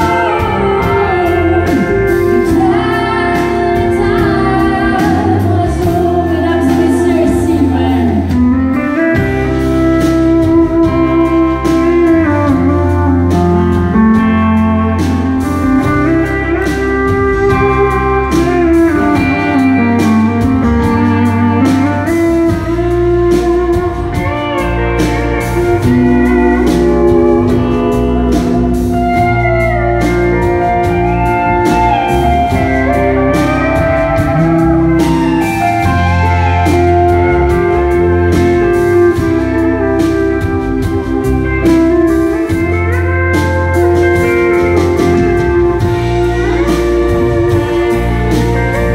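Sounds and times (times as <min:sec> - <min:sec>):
country band playing: 0:00.0 - 0:48.9
pedal steel guitar: 0:00.0 - 0:48.9.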